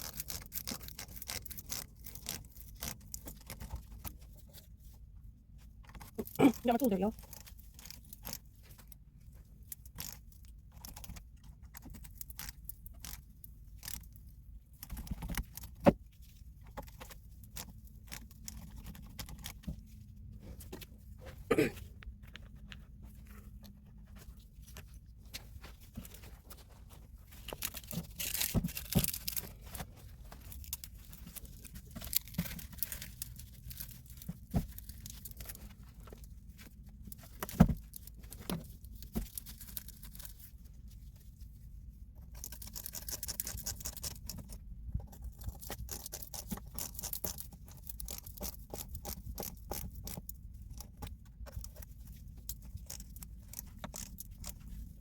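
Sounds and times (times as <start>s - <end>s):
rustling and scraping: 0.0s - 55.0s.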